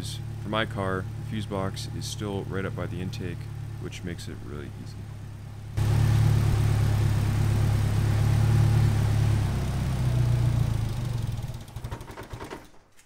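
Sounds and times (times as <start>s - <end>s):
car engine idling and sputtering: 0.0s - 12.8s.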